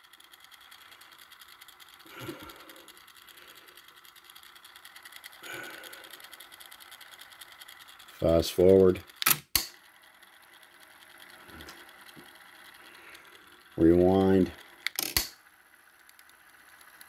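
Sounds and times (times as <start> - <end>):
cassette deck motor running: 0.0 - 17.0.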